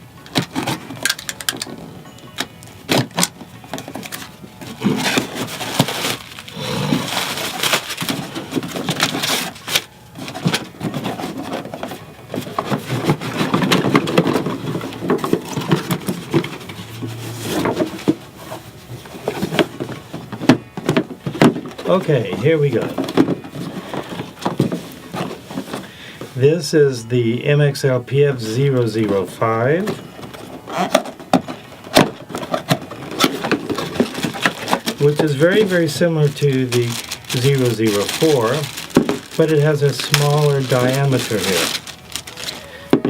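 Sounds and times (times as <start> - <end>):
cardboard box rustling and scraping: 3.8 - 26.5, 28.6 - 43.0.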